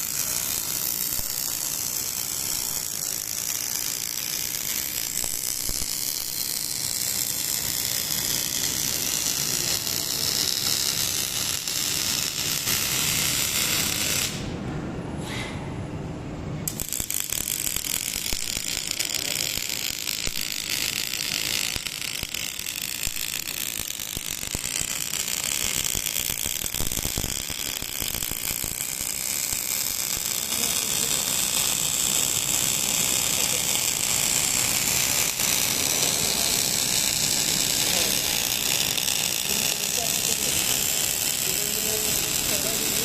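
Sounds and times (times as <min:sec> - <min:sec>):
welding arc crackling: 0:00.0 - 0:14.5, 0:16.7 - 0:43.0.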